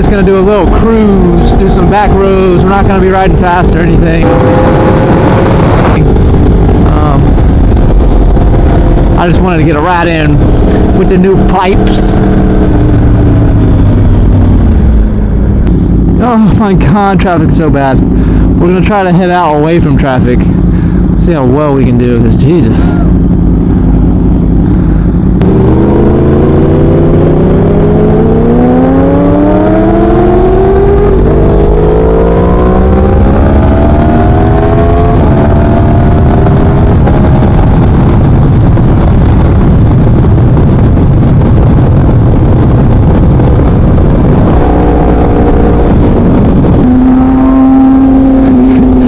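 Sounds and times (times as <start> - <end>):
motorcycle engine accelerating: 0.0 - 49.0
wind and road noise: 0.0 - 49.0.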